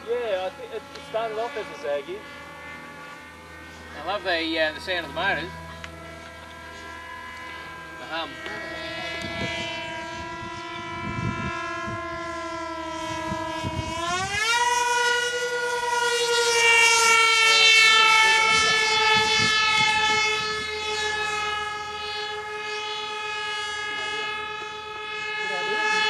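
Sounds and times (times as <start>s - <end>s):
electric motor and propeller humming: 0.0s - 26.0s.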